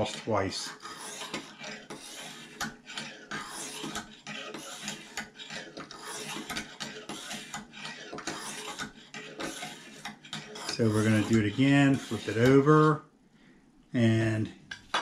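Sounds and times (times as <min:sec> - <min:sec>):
knife sharpener scraping blade: 0:00.0 - 0:12.9.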